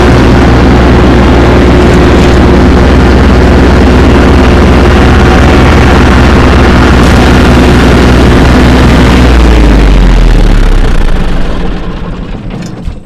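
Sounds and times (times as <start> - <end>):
tractor engine mowing: 0.0 - 13.0.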